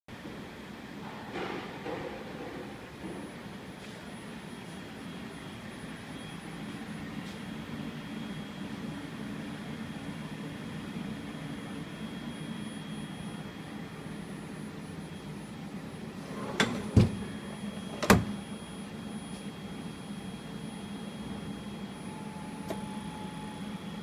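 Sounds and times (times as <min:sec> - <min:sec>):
lathe humming and whining: 0:02.9 - 0:24.0.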